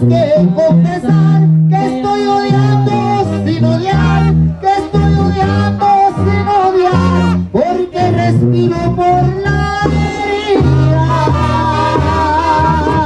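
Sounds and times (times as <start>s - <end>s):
brass band playing: 0.0s - 13.0s
person singing: 0.0s - 13.0s
trumpets playing melody: 0.0s - 13.0s
tuba bass notes: 0.0s - 13.0s.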